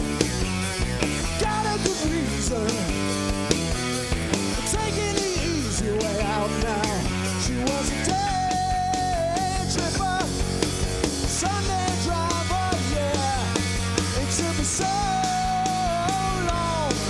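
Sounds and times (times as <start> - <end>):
live rock band instrumental: 0.0 - 17.0.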